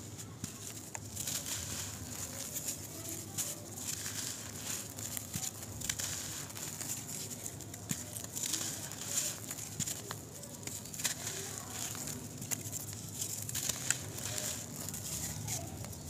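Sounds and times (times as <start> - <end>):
dirt crumbling and trickling: 0.0 - 16.0.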